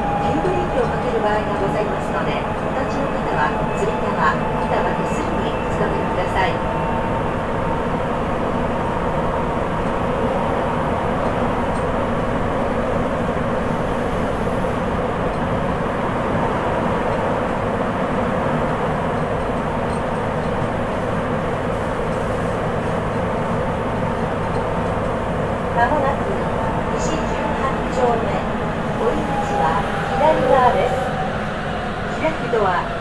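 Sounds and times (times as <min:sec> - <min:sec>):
train rumble inside car: 0:00.0 - 0:33.0.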